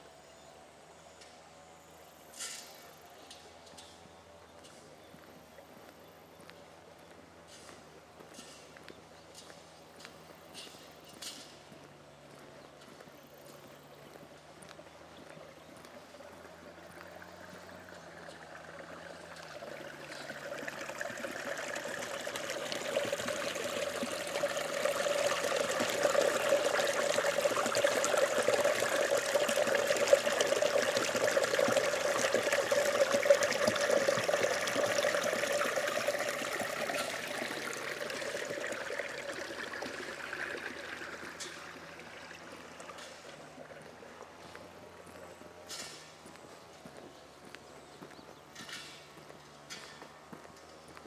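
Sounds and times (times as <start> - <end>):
water trickling in a ditch: 0.2 - 51.0.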